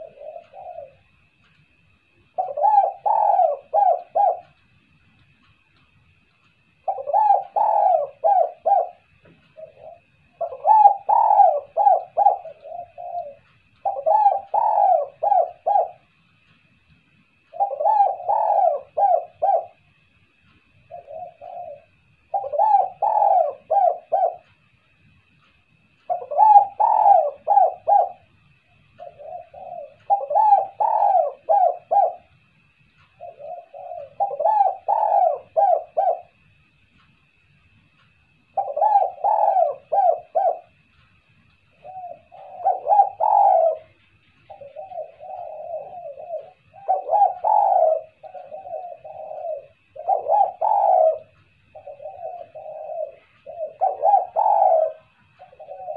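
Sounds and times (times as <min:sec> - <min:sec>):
dove cooing: 0:00.0 - 0:04.6, 0:06.6 - 0:16.2, 0:17.3 - 0:20.1, 0:20.8 - 0:24.7, 0:26.0 - 0:36.6, 0:38.4 - 0:41.0, 0:41.6 - 0:55.9.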